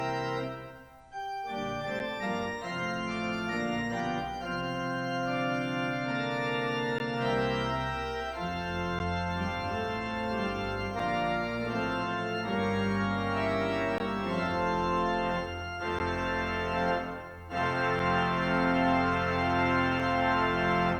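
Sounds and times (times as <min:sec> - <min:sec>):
organ playing sustained chords: 0:00.0 - 0:20.9.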